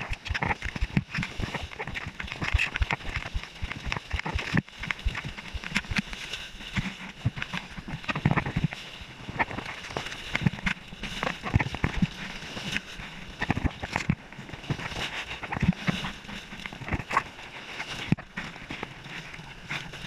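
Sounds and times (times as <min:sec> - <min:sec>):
water splashing against camera: 0:00.0 - 0:20.0.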